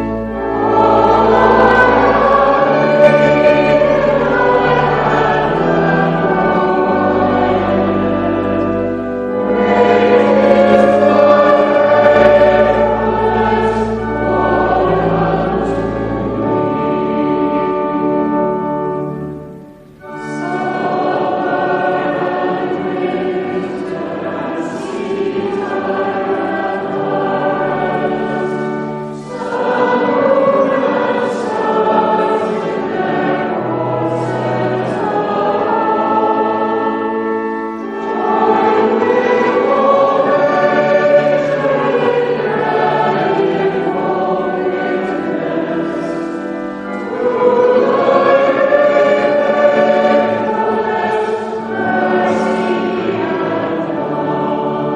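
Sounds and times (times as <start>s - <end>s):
choir singing a hymn: 0.0s - 54.9s.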